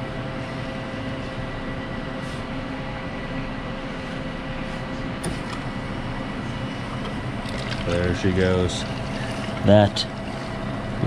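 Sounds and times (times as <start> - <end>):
coffee machine humming: 0.0 - 11.0.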